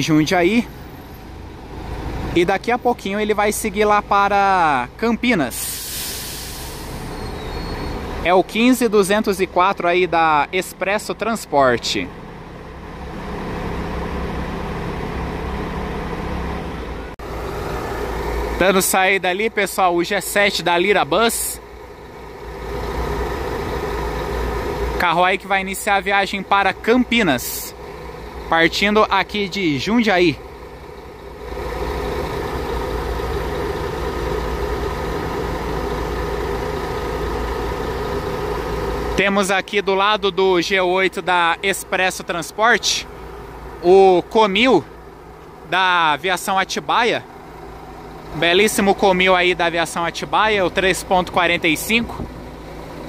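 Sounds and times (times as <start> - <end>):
diesel coach engine idling: 0.0 - 53.0.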